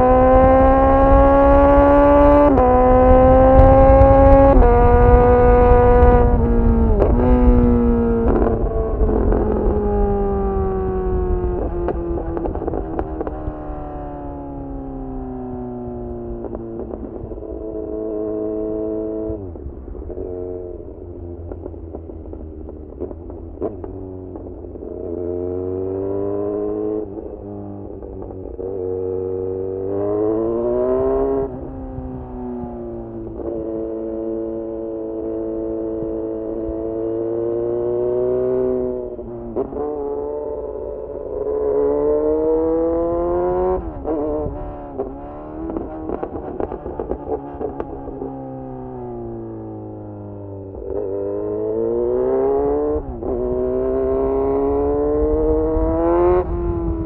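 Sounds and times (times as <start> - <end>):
muffled motorcycle engine revving: 0.0 - 57.0.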